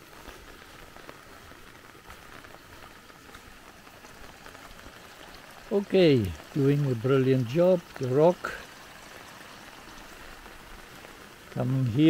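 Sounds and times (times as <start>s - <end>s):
water trickling and bubbling: 0.0s - 12.0s.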